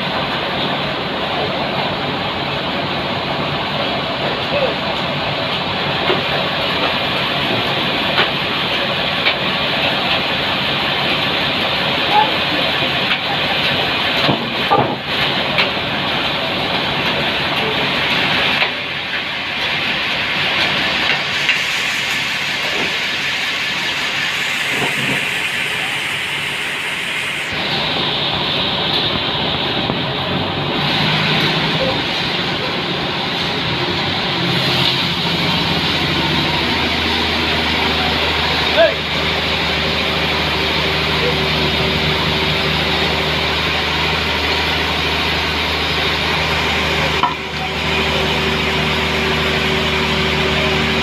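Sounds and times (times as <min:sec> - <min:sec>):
sawmill machinery running: 0:00.0 - 0:51.0.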